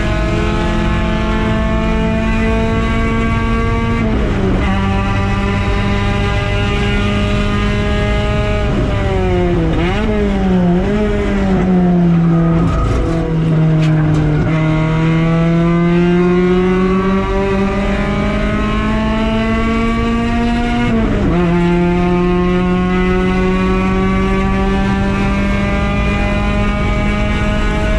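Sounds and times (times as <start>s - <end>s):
race car engine revving: 0.0s - 27.9s.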